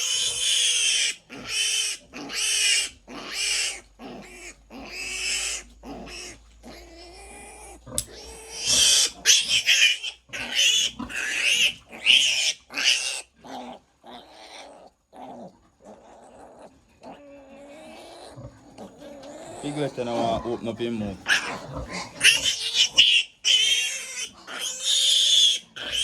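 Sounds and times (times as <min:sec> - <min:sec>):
piglet squealing: 0:00.0 - 0:26.0.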